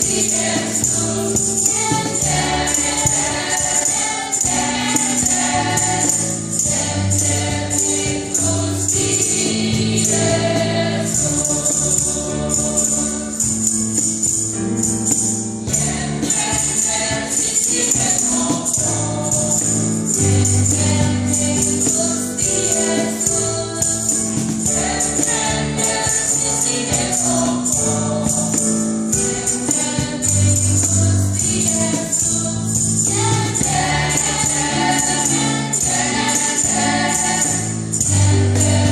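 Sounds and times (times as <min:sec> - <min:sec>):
choir singing: 0:00.0 - 0:13.7, 0:15.6 - 0:38.9.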